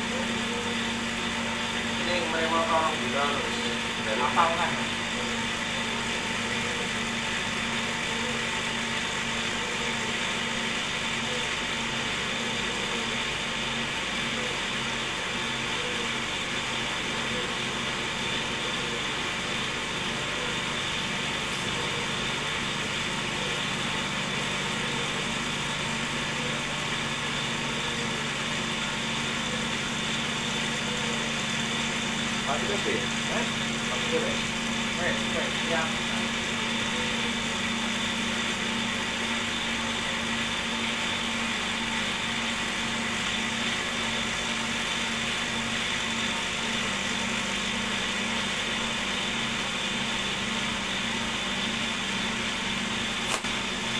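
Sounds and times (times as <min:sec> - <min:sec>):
motor humming and whining: 0:00.0 - 0:53.9.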